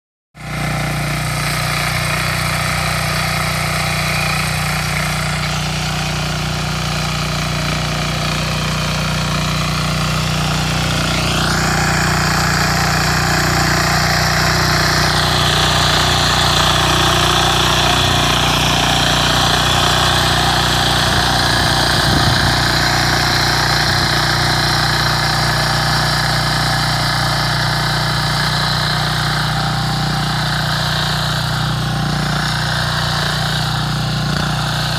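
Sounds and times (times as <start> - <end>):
tiller engine running: 0.4 - 34.9.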